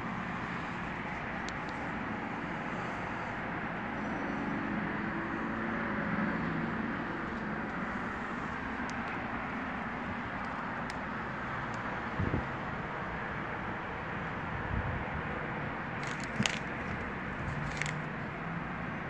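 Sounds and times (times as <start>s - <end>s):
steady rushing noise with low hum: 0.0s - 4.0s, 4.6s - 19.0s.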